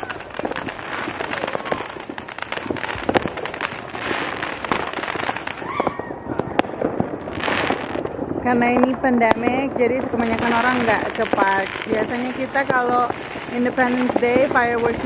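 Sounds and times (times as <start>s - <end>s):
fireworks popping and banging: 0.0s - 15.0s.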